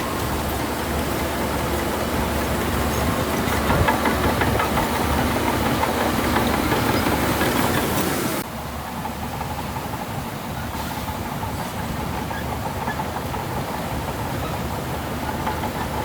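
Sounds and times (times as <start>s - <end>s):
heavy diesel engine running: 0.0s - 16.0s
clatter: 0.4s - 8.4s, 9.0s - 16.0s.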